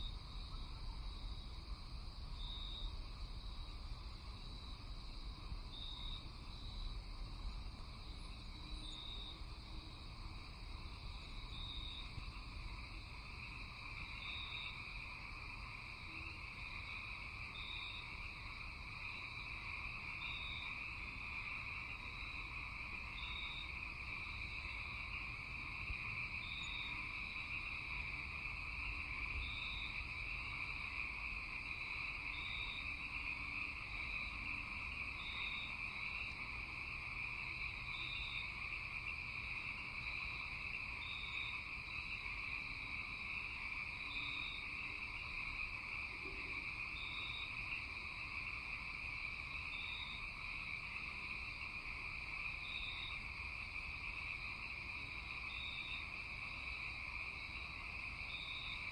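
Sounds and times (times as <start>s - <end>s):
insects and frogs trilling: 0.0s - 58.9s.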